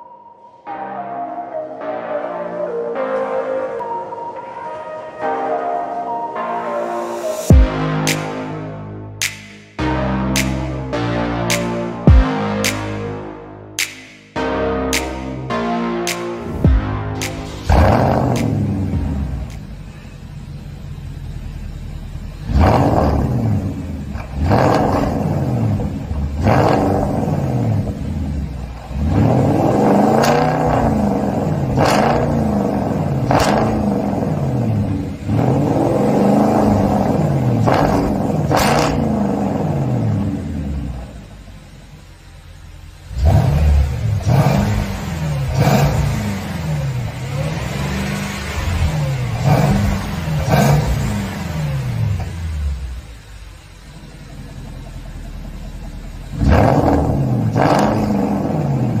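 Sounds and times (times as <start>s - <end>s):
car engine revving: 7.5s - 59.0s.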